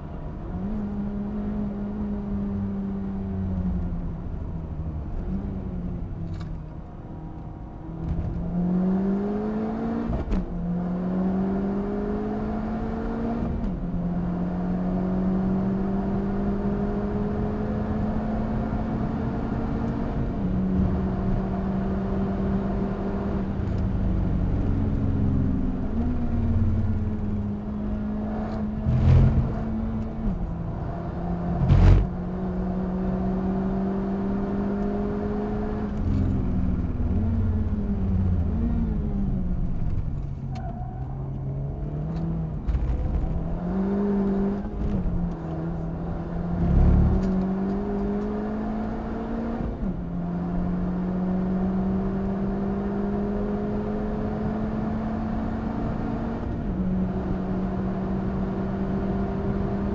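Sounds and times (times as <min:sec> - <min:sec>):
car engine revving: 0:08.0 - 0:59.9.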